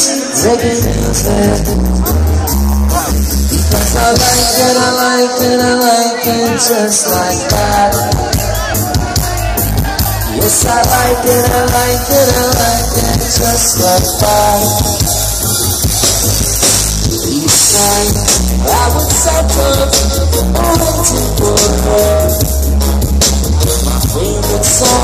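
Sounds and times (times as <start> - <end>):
reggae band playing live: 0.0 - 25.0.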